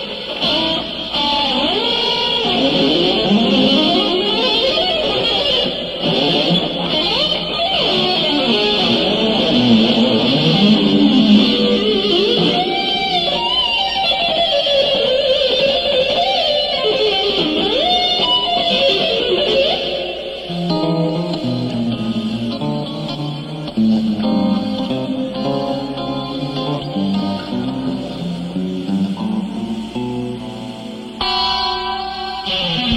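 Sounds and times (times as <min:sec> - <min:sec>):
electric guitar lead line: 0:00.0 - 0:32.9.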